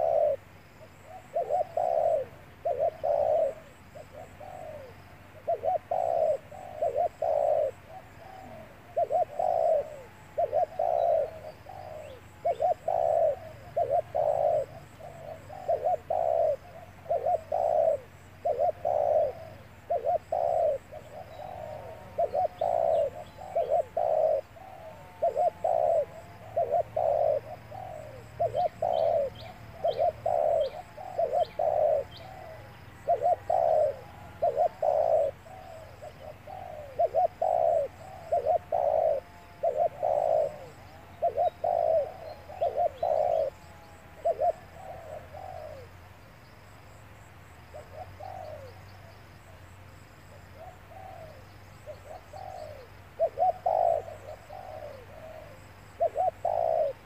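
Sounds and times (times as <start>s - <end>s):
small birds chirping: 0.0s - 49.6s
dove cooing: 0.0s - 57.0s.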